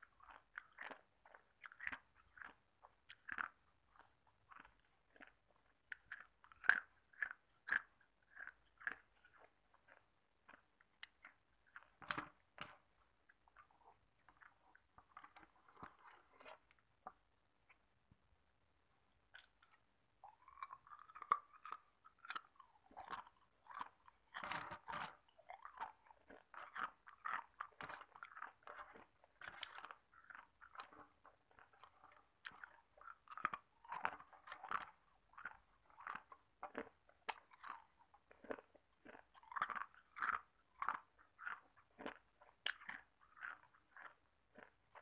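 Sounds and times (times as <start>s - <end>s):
ice cubes being chewed: 0.0s - 17.9s, 19.1s - 45.0s.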